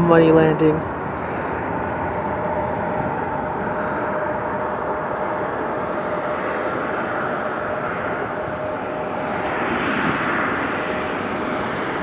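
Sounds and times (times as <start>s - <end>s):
faint steady whine: 0.0s - 12.0s
jet engine rushing hum: 0.0s - 12.0s.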